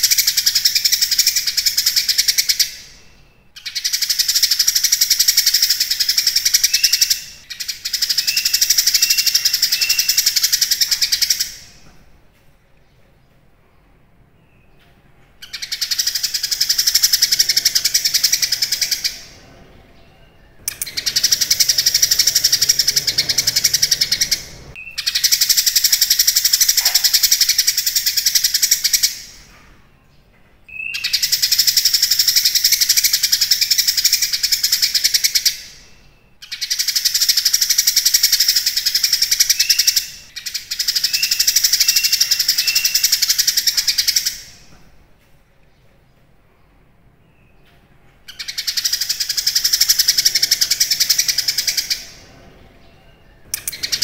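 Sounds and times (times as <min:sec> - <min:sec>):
bird chattering song: 0:00.0 - 0:11.9, 0:14.3 - 0:44.7, 0:47.2 - 0:54.0.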